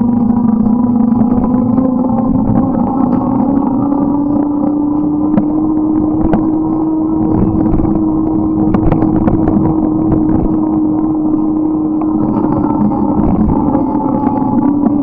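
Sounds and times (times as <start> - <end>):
bike riding hum: 0.0 - 15.0
road noise: 0.0 - 15.0
wind rushing: 0.0 - 15.0.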